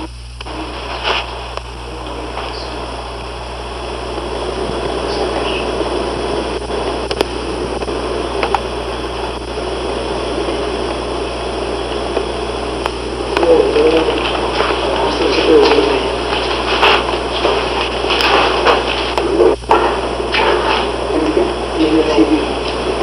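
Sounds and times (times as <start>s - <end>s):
steady hiss and low hum: 0.0s - 23.0s.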